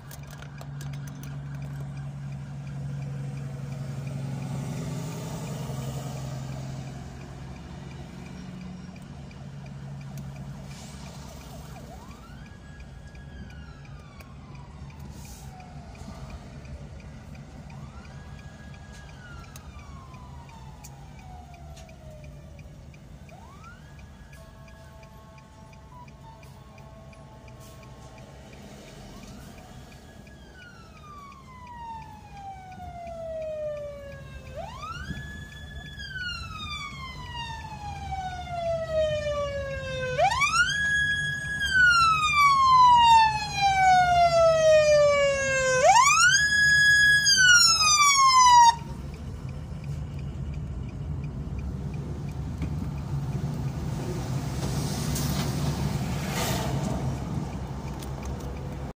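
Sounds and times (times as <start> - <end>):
emergency siren wailing: 0.0 - 58.9
low road rumble: 0.0 - 58.9.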